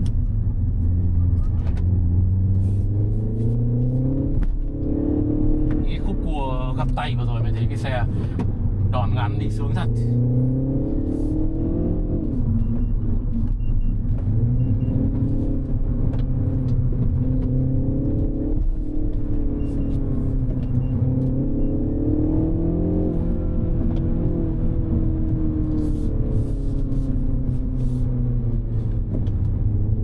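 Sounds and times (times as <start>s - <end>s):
car engine pulling hard: 0.0s - 30.0s.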